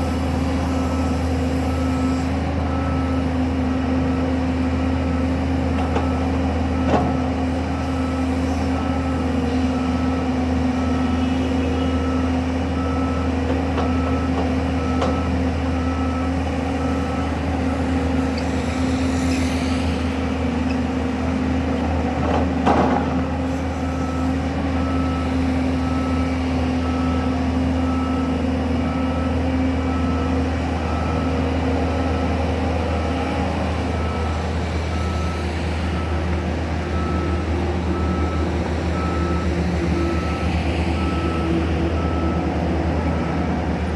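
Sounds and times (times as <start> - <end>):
reversing alarm beeping: 0.0 - 19.1, 22.1 - 43.8
construction machinery engine drone: 0.0 - 43.9.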